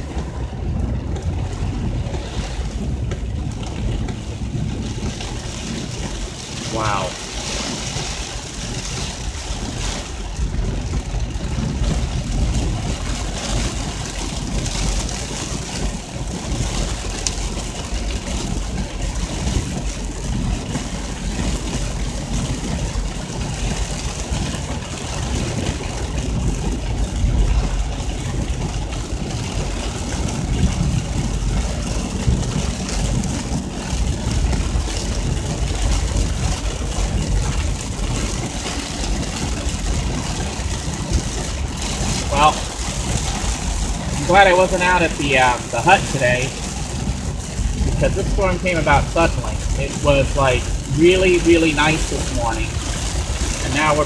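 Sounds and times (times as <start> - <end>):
car engine idling: 0.0 - 54.0
heavy rain on a car roof: 0.0 - 54.0.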